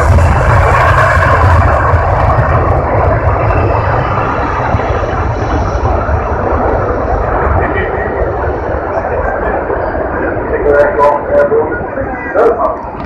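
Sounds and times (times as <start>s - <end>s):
large aircraft engine roar: 0.0s - 13.0s.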